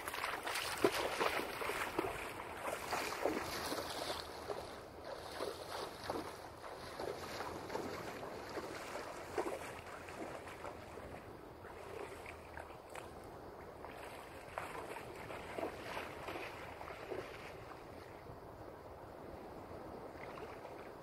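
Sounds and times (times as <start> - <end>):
water splashing and lapping: 0.0 - 18.4, 19.8 - 21.0
wind on microphone: 0.0 - 21.0.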